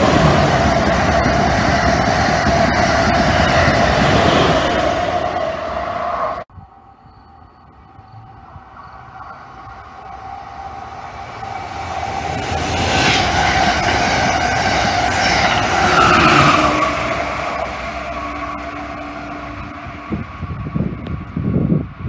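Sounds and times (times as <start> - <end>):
train wheels rushing on rail: 0.0 - 6.5, 9.6 - 22.0
locomotive whine dropping in pitch: 0.0 - 22.0.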